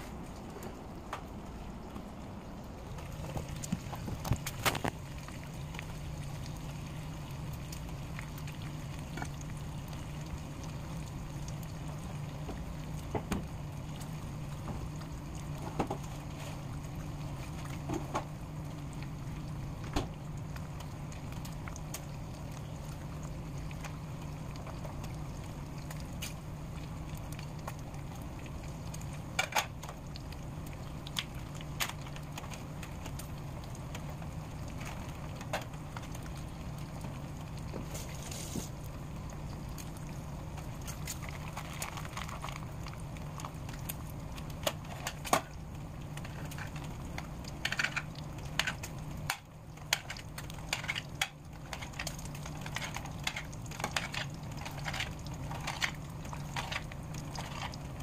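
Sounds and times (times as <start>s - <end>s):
bacon sizzling in a frying pan: 2.8s - 58.0s.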